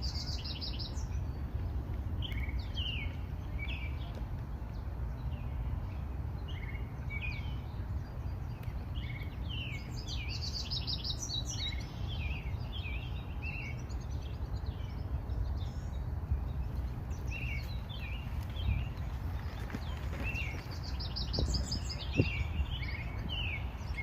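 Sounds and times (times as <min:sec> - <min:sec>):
songbirds chirping: 0:00.0 - 0:24.0
steady low rumble: 0:00.0 - 0:24.0.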